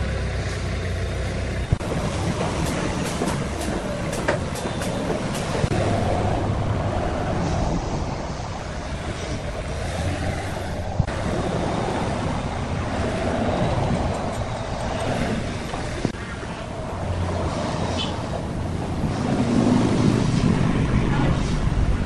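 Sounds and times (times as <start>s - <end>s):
forklift engine droning: 0.0s - 21.1s.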